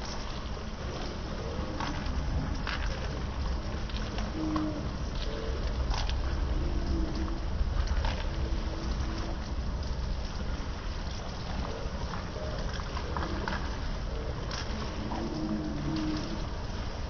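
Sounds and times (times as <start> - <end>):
low rumble: 0.0 - 17.0
rain on concrete: 0.0 - 17.0.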